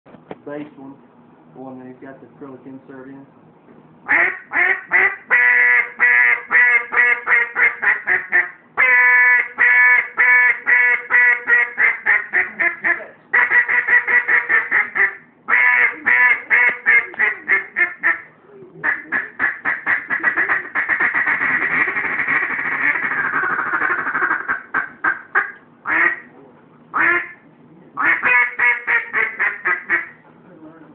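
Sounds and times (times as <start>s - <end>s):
duck call quacking: 4.1s - 26.3s, 27.0s - 27.4s, 28.0s - 30.2s.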